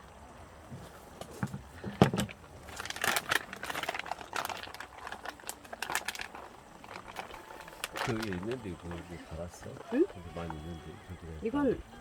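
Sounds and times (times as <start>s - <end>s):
crinkling and rustling: 0.6s - 10.6s.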